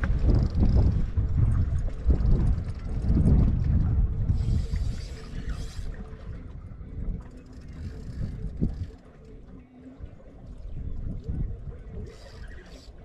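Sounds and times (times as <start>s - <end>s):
wind and water against a hull: 0.0s - 13.0s.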